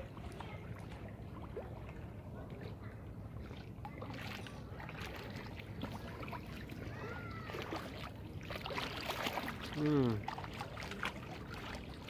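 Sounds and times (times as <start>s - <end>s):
pool water splashing: 0.0s - 12.0s.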